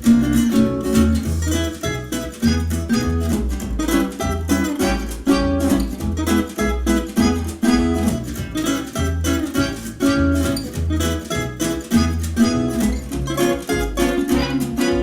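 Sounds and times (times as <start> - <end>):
plucked guitar: 0.0 - 15.0
steady bass beat: 0.0 - 15.0.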